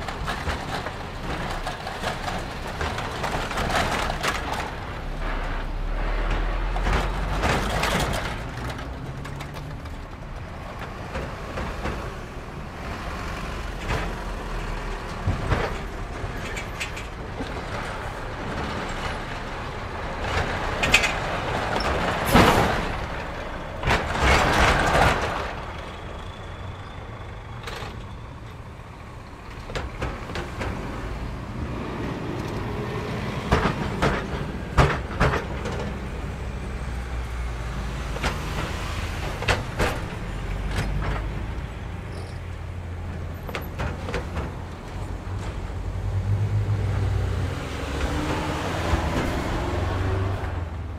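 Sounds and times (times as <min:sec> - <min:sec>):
truck diesel engine rumble: 0:00.0 - 0:50.9
wheels rattling over rails: 0:00.0 - 0:50.9.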